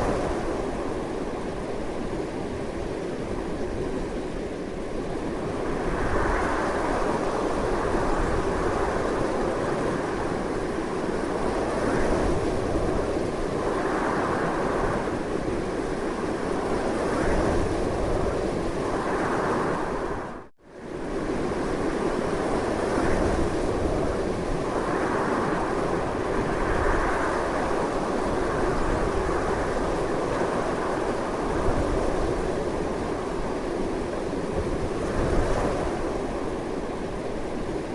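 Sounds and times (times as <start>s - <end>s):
strong gusting wind: 0.0s - 37.9s.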